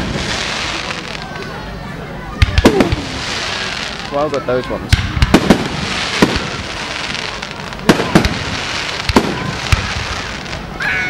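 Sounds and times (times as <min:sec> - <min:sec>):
fireworks bangs: 0:00.0 - 0:11.0
steady background hiss: 0:00.0 - 0:11.0.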